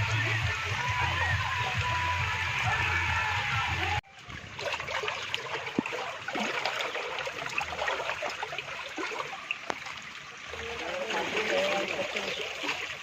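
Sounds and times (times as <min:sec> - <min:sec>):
rainwater trickling and splashing: 0:00.0 - 0:13.0.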